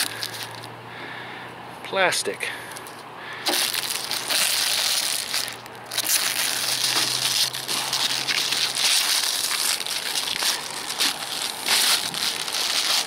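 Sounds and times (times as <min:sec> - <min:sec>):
plastic film peeling crinkling: 0:00.0 - 0:00.7, 0:02.8 - 0:13.0.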